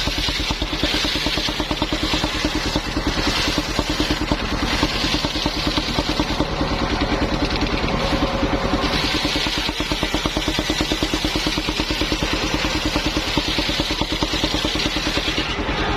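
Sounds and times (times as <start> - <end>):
sawmill engine running: 0.0 - 15.9.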